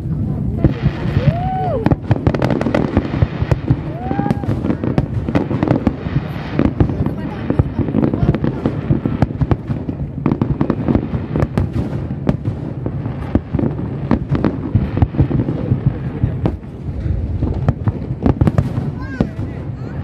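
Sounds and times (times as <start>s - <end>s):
firework bangs: 0.0s - 20.0s
low rumble of explosions: 0.0s - 20.0s.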